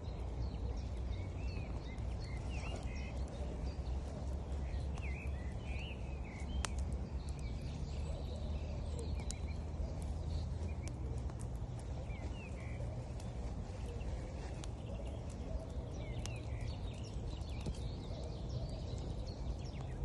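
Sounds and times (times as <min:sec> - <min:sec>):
birds chirping: 0:00.0 - 0:20.0
campfire wood crackling and popping: 0:00.0 - 0:20.0.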